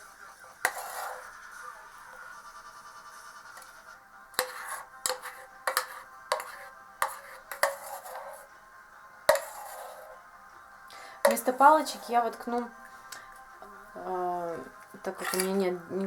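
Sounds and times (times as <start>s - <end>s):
sustained music tones: 0.0s - 16.0s.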